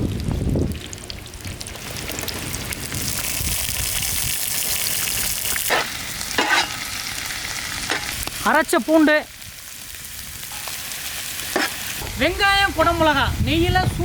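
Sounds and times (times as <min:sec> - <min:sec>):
vegetables sizzling in hot fat: 0:00.0 - 0:13.4.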